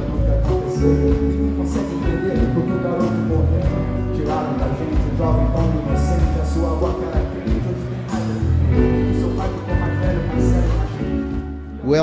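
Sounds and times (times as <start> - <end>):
man singing into a microphone: 0.0 - 11.5
live band music: 0.0 - 12.0.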